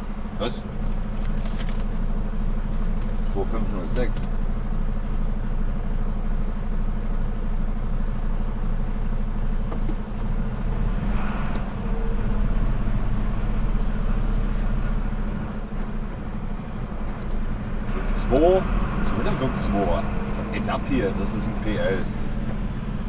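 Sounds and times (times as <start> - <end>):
truck diesel engine humming: 0.0 - 23.0.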